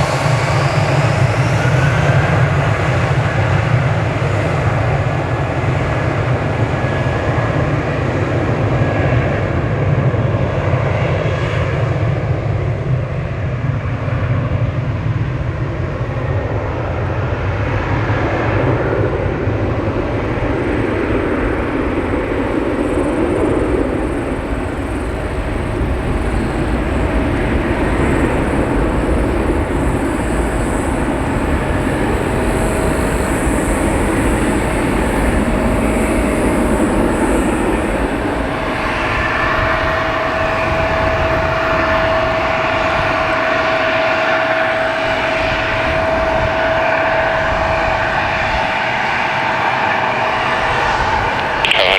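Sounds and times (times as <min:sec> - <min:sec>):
jet engines rumble and hiss: 0:00.0 - 0:51.9.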